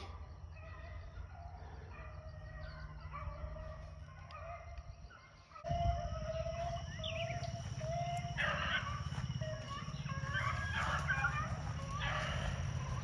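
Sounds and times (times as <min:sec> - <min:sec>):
hounds baying: 0:00.0 - 0:13.0.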